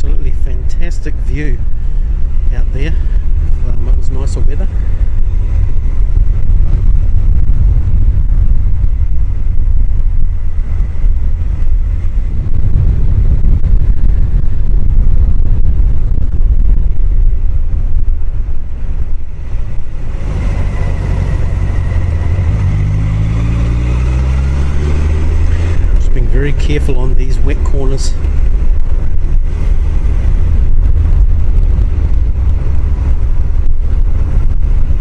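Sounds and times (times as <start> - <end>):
motorcycle engine running: 0.0 - 35.0
wind buffeting microphone: 0.0 - 35.0.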